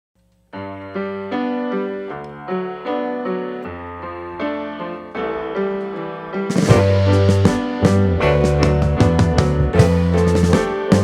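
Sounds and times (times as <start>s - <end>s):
piano-like keyboard chords: 0.6s - 11.0s.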